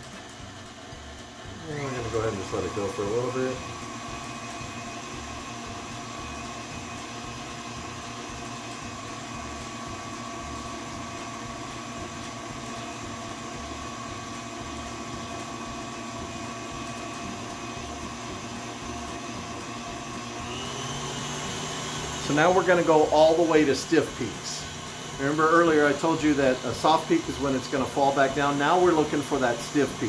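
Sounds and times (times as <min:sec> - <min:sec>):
stand mixer whisking: 0:00.0 - 0:30.0.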